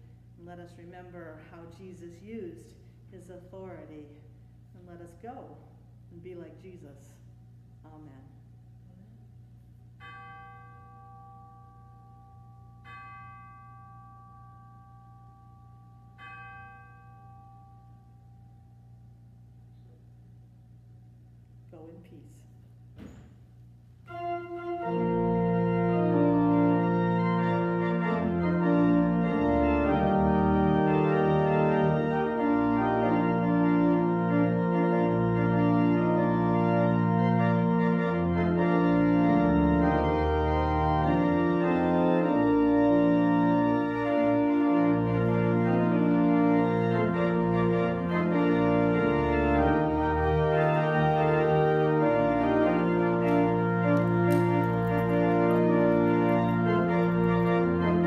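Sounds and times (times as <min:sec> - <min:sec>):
organ playing held chords: 0:09.4 - 0:21.6, 0:23.5 - 0:58.0.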